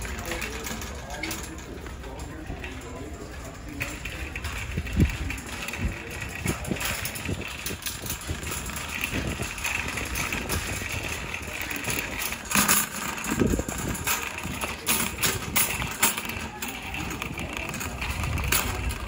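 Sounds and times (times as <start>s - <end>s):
cart clatter: 0.0s - 19.0s
shopping cart wheels rumbling: 0.0s - 19.0s
wire basket rattling: 0.0s - 19.0s.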